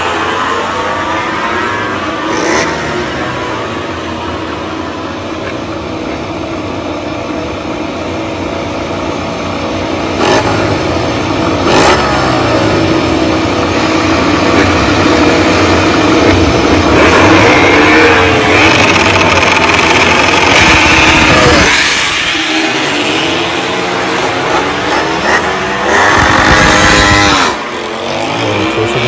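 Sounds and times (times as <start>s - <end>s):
racing motorcycles revving: 0.0s - 29.0s.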